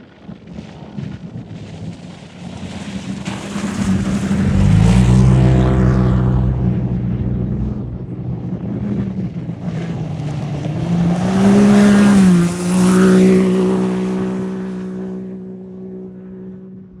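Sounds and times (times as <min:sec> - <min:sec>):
off-road vehicle engine passing: 0:02.6 - 0:17.0.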